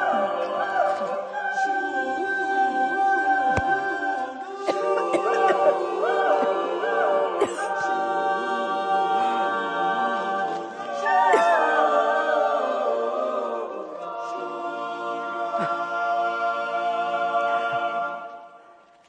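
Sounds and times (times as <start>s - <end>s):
women's choir singing a cappella: 0.0s - 18.8s.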